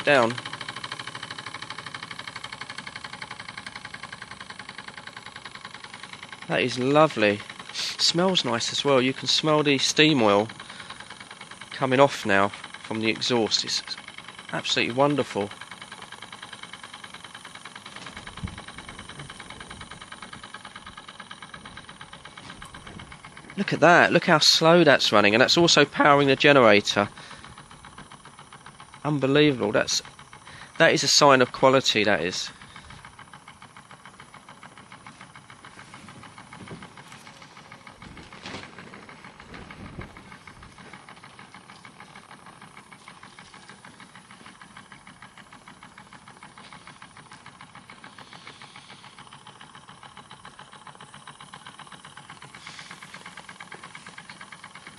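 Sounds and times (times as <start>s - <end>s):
steam engine exhaust puffs: 0.0s - 54.9s.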